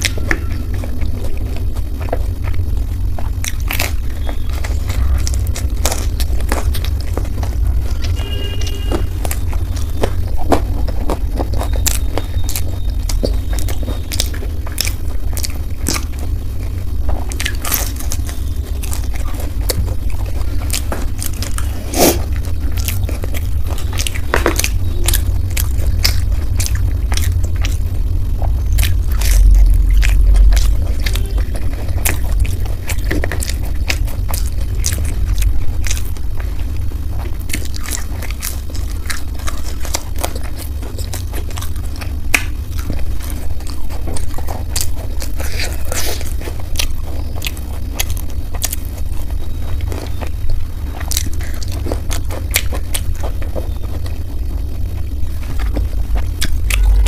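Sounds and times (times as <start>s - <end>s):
crunchy chewing: 0.0s - 57.0s
steady low hum: 0.0s - 57.0s
wet mouth sounds: 0.0s - 57.0s.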